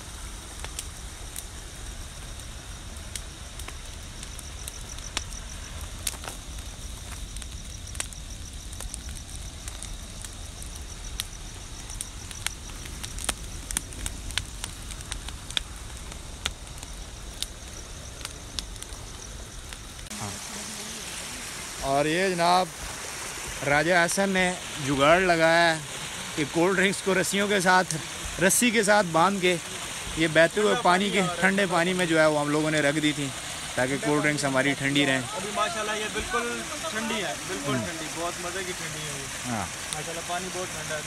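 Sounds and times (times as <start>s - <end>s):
bonfire crackling and popping: 0.0s - 41.0s.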